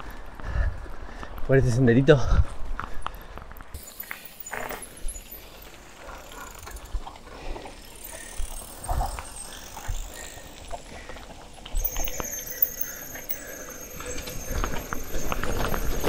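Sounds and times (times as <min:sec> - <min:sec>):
bicycles rolling downhill: 0:00.0 - 0:16.0
bikes knocking and rattling: 0:02.7 - 0:16.0.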